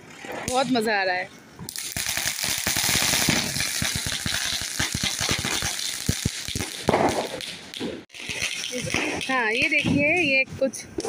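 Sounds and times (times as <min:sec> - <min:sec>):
spinning firecrackers hissing and crackling: 0:01.7 - 0:10.8.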